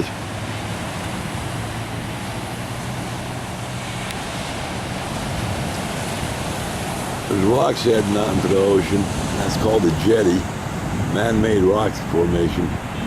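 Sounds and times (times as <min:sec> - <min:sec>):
surf breaking on a beach: 0:00.0 - 0:13.0
wind rumbling on microphone: 0:00.0 - 0:13.0.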